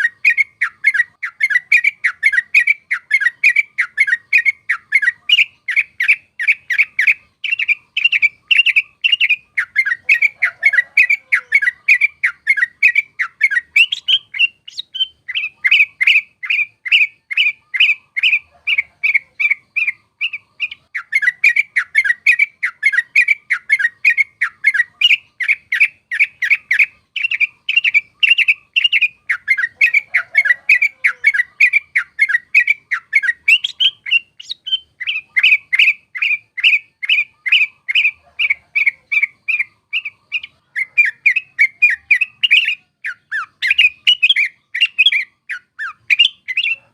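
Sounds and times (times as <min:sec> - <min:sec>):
bird singing chirping song: 0:00.0 - 0:46.9.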